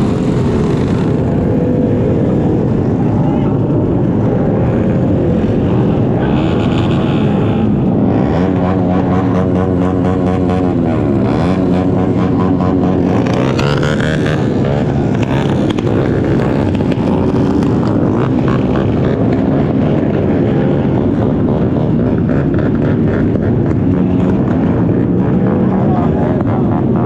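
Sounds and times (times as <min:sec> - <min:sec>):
motorcycle engine revving: 0:00.0 - 0:27.0
wind and road noise: 0:00.0 - 0:27.0.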